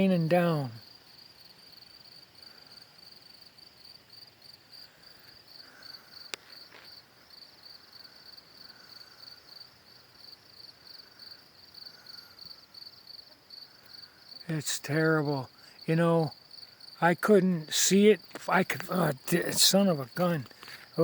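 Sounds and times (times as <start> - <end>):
crickets chirping: 0.0 - 21.0
low insect call: 0.0 - 21.0.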